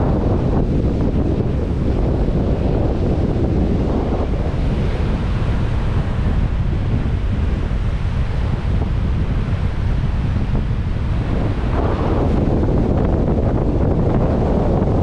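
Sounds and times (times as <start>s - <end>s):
heavy surf crashing ashore: 0.0s - 15.0s
wind buffeting microphone: 0.0s - 15.0s.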